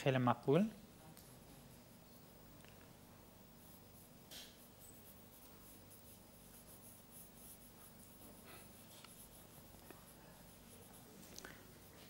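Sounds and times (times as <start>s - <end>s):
low room hum: 0.0s - 12.0s
pencil scratching on paper: 1.2s - 2.4s, 3.4s - 12.0s.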